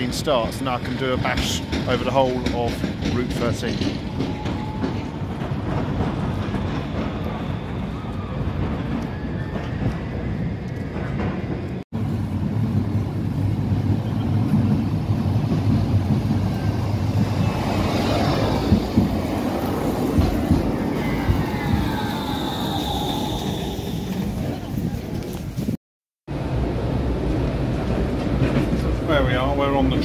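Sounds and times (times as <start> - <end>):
city street rumble: 0.0 - 30.0.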